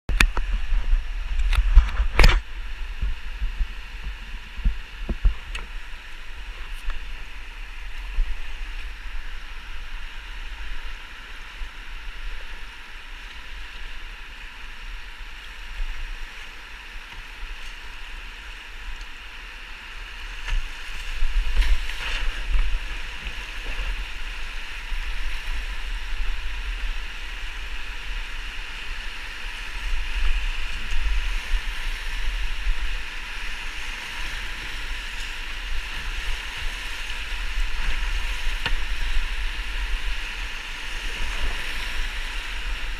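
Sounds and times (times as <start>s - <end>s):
whitewater rapids rushing: 0.4s - 42.9s.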